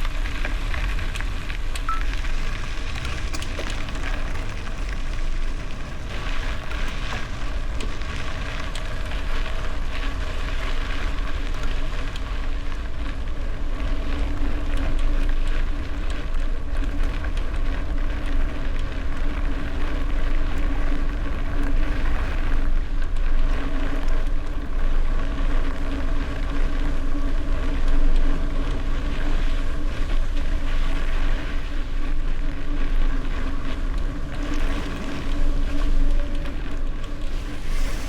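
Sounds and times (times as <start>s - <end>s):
steady hum: 0.0s - 14.6s, 18.4s - 38.0s
bicycle tyres rolling: 0.0s - 38.0s.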